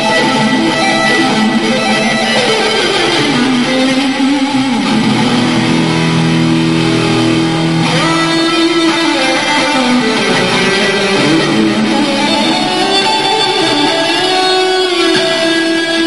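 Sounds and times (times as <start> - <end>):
guitar music with sliding notes: 0.0 - 16.0.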